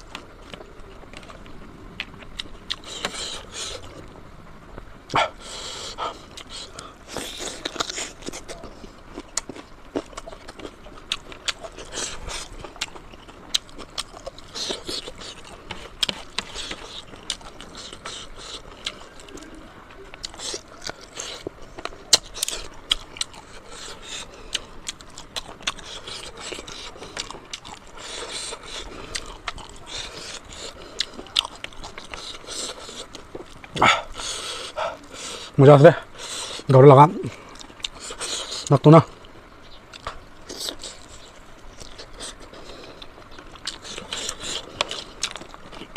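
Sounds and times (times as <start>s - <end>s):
person chewing and smacking: 0.0s - 4.2s, 5.1s - 45.9s.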